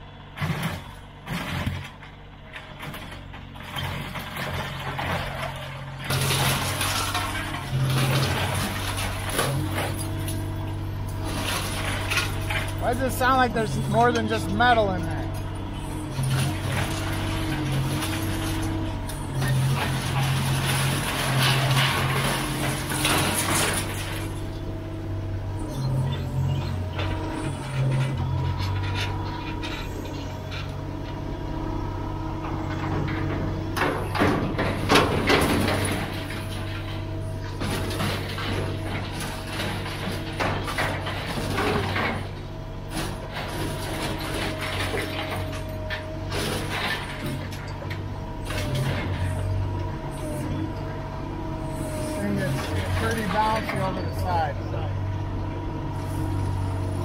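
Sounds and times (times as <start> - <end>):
excavator diesel engine: 0.0 - 57.0
scrap metal clanking and scraping: 0.3 - 24.7, 25.4 - 31.4, 32.4 - 54.8.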